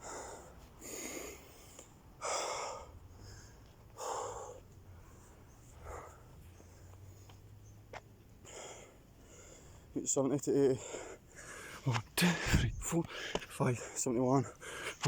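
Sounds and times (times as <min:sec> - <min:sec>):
man breathing heavily: 0:00.0 - 0:07.4, 0:08.4 - 0:10.0, 0:10.6 - 0:15.0.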